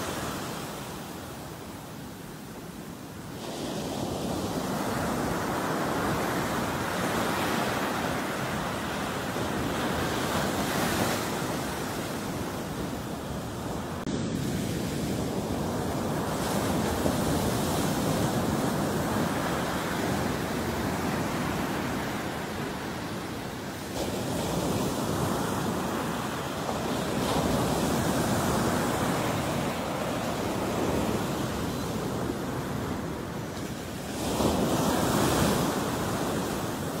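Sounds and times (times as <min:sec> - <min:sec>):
waves breaking on beach: 0:00.0 - 0:37.0.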